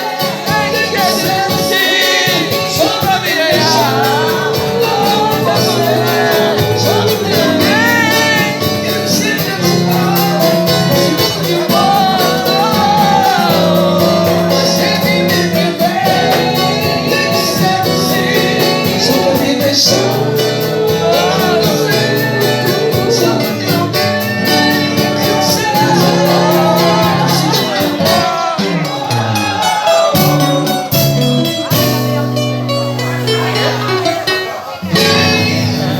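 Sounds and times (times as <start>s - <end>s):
fast percussion beat: 0.0s - 35.9s
live band playing: 0.0s - 35.9s
person singing: 0.0s - 35.9s.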